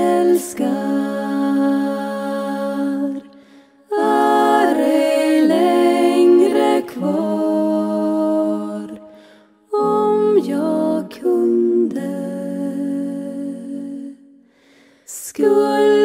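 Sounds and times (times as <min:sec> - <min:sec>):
women singing harmony chords: 0:00.0 - 0:16.0.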